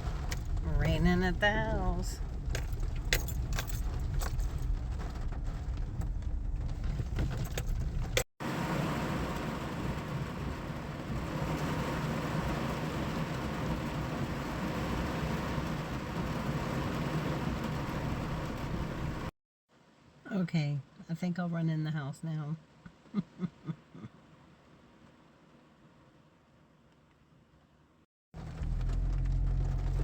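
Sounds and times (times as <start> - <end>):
rain on a car roof: 0.0 - 20.1, 22.6 - 30.0.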